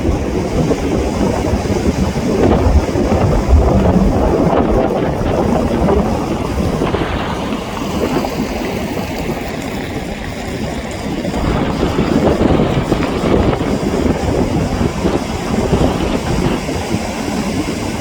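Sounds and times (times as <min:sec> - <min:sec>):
sea waves breaking ashore: 0:00.0 - 0:18.0
wind rumbling on microphone: 0:00.0 - 0:18.0.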